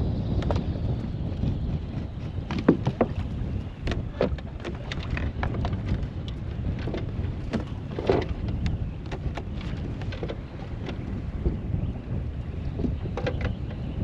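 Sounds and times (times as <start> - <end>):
waves slapping against hull: 0.0 - 14.0
wind buffeting microphone: 0.0 - 14.0.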